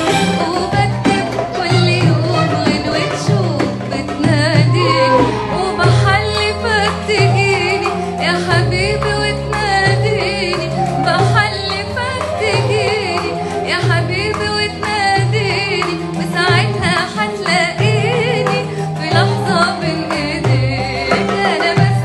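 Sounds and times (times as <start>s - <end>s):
band accompaniment with pulsing bass: 0.0s - 22.0s
woman singing: 0.0s - 22.0s.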